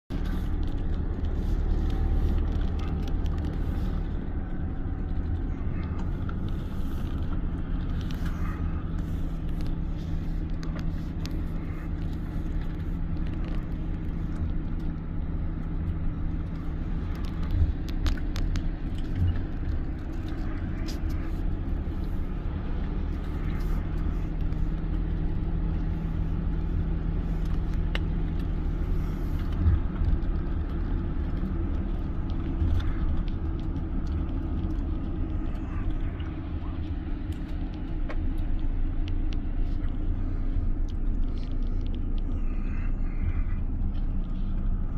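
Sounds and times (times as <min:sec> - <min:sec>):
car engine hum: 0:00.0 - 0:44.9
low road rumble: 0:00.0 - 0:44.9.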